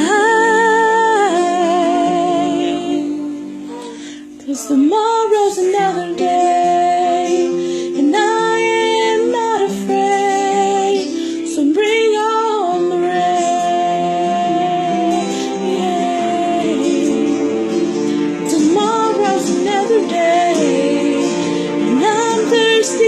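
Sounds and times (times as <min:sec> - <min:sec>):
quiet musical accompaniment: 0:00.0 - 0:23.0.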